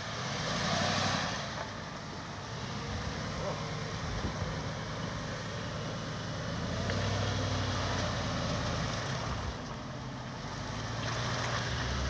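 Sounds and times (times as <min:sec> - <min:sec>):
suv engine at low throttle: 0:00.0 - 0:12.0.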